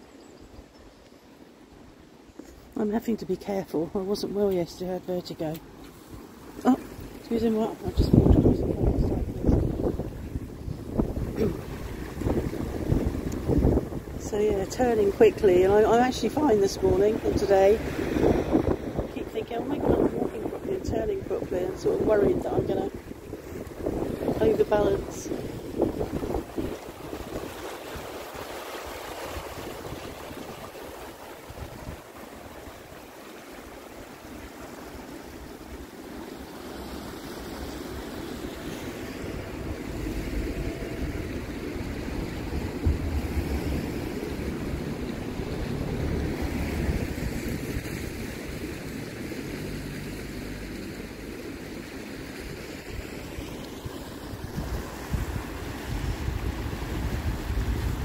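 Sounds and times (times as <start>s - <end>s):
river floodwater rushing: 1.1s - 58.0s
wind buffeting microphone: 3.0s - 33.1s, 36.7s - 58.0s.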